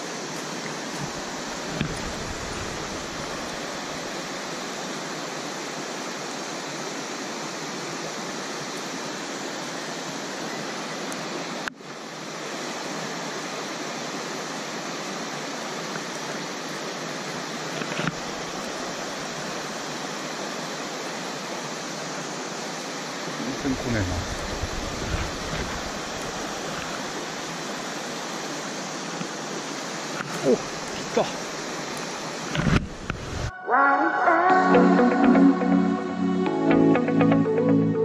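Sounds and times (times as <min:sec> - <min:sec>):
stream rushing over rocks: 0:00.0 - 0:35.6.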